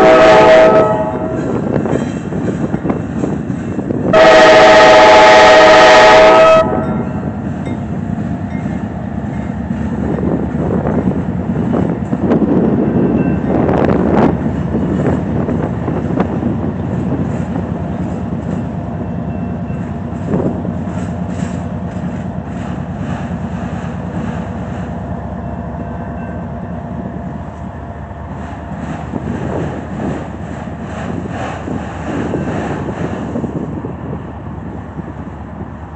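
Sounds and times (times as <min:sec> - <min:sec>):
rail clicks: 0:00.0 - 0:04.9, 0:06.6 - 0:35.9
diesel locomotives passing: 0:00.0 - 0:35.9
steel wheels rumbling on rails: 0:00.0 - 0:35.9.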